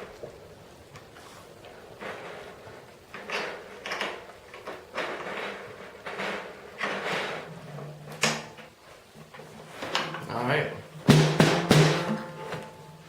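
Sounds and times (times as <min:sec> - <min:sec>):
scraping and clattering on snare drum: 0:01.2 - 0:13.0.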